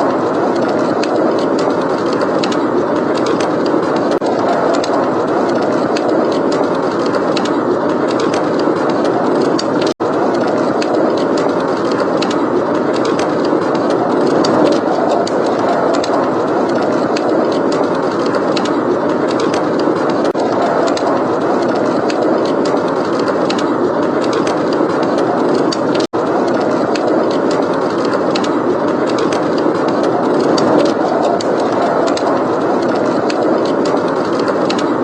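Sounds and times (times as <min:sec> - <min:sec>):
blizzard wind: 0:00.0 - 0:35.0.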